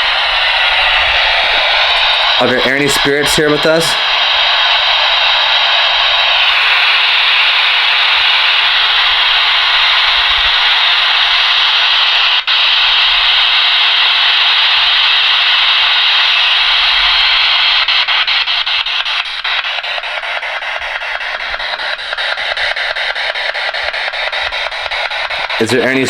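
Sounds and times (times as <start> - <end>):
radio static: 0.0 - 26.0.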